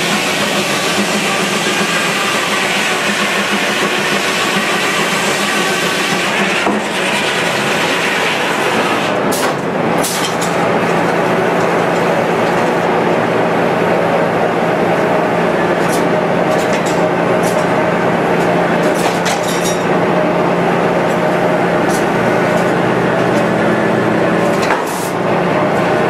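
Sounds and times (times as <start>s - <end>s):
sawmill clatter and whir: 0.0s - 26.0s.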